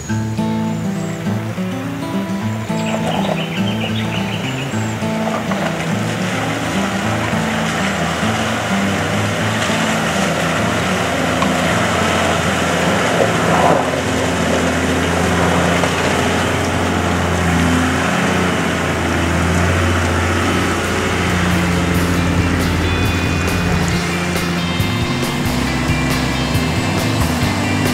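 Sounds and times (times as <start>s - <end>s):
car engine running at low speed: 0.0s - 27.9s.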